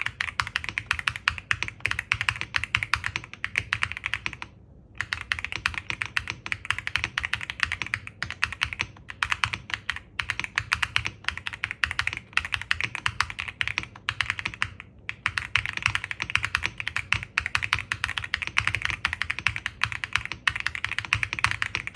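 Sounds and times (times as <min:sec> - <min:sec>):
fast mechanical keyboard typing: 0:00.0 - 0:21.9.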